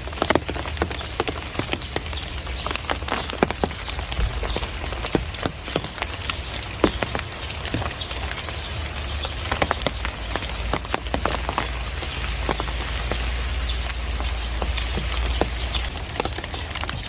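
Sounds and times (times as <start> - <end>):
raindrops striking hard surfaces: 0.0 - 17.0
steady rain hissing: 0.0 - 17.0.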